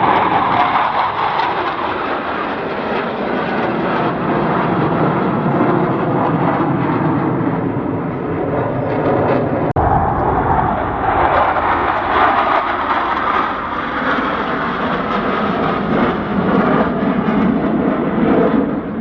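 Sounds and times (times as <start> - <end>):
loud jet noise: 0.0 - 19.0.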